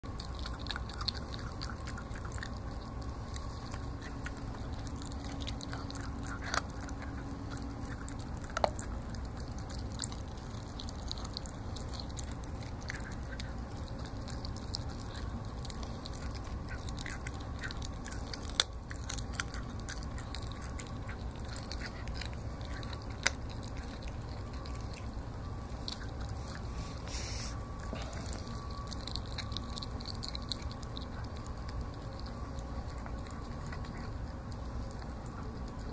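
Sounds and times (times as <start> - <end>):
low background hum: 0.0 - 35.9
puppy chewing bones: 0.0 - 35.9.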